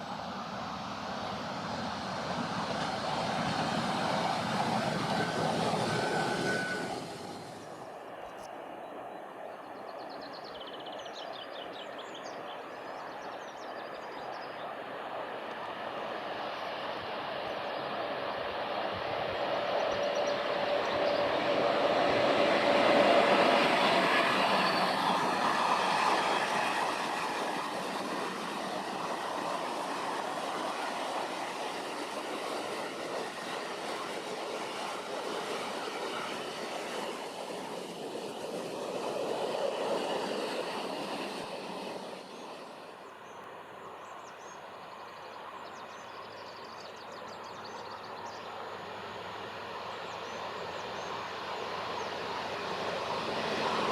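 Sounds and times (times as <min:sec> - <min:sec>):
train passing on rails: 0:00.0 - 0:53.9.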